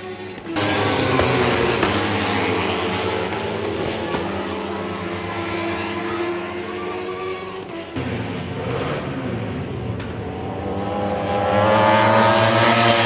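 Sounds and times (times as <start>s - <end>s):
racing motorcycle engines high revs: 0.1s - 13.0s.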